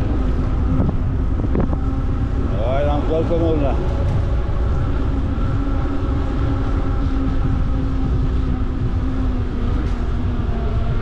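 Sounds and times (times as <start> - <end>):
bicycle tyres on asphalt: 0.0 - 11.0
steady humming tone: 0.0 - 11.0
wind on microphone: 0.0 - 11.0.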